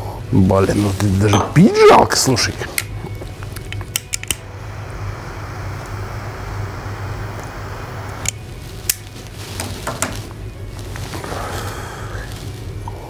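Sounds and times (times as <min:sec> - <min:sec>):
lighter flame hissing: 0:00.0 - 0:13.0.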